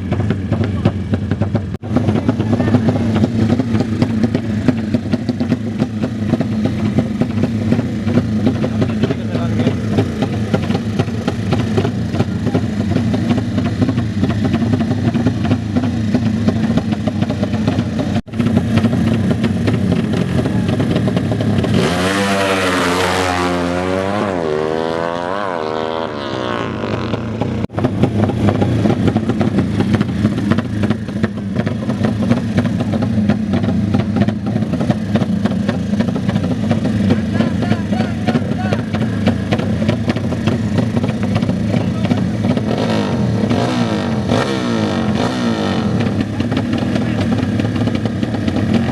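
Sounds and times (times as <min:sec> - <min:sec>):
motorcycle engine revving: 0:00.0 - 0:48.9
motorcycle engines running: 0:00.0 - 0:48.9.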